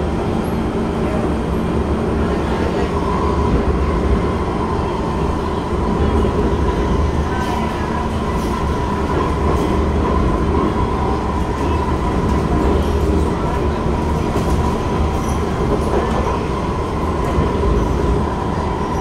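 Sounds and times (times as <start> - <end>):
wheels rumbling on track: 0.0 - 19.0.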